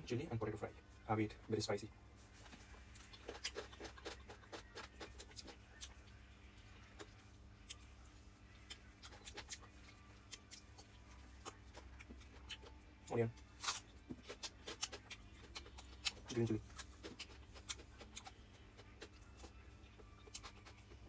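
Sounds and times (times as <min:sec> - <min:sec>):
man chewing food: 0:02.2 - 0:21.0.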